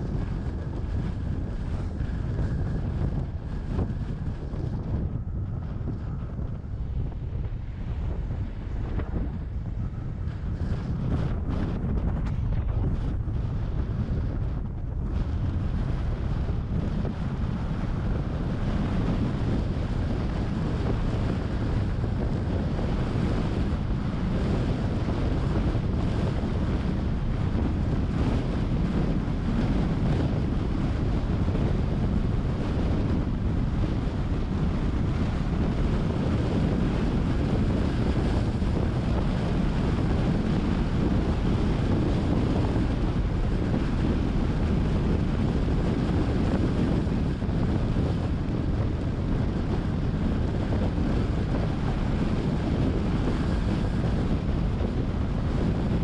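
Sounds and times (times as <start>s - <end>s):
road noise: 0.0s - 56.0s
wind rumble on microphone: 0.0s - 56.0s.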